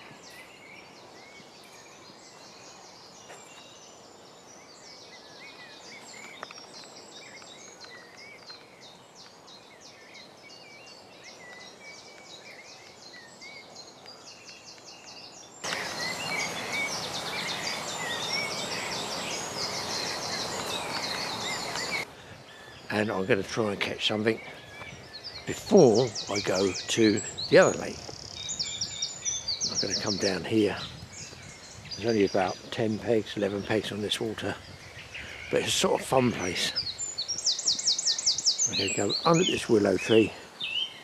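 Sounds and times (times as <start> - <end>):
small birds singing: 0.0 - 41.0
steady outdoor hiss: 0.0 - 41.0.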